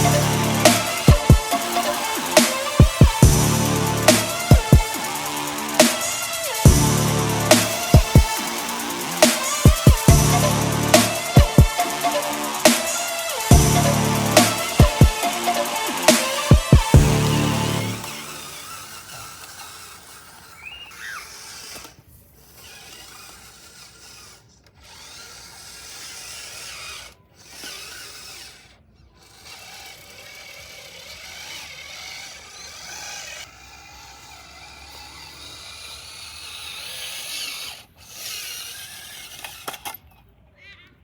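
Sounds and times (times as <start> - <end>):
small electric motors whirring: 0.0 - 41.0.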